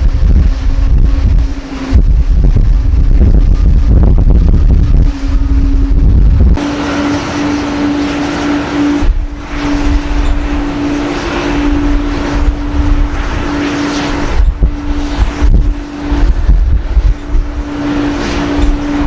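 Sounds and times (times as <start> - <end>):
gusty wind buffeting microphone: 0.0 - 19.0
steady droning hum: 0.0 - 19.0.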